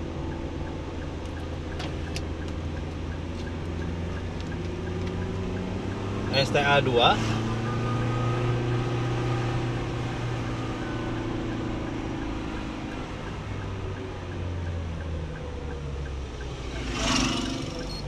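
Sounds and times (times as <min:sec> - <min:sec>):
car engine running: 0:00.0 - 0:18.0
tyre and road noise: 0:00.0 - 0:18.0.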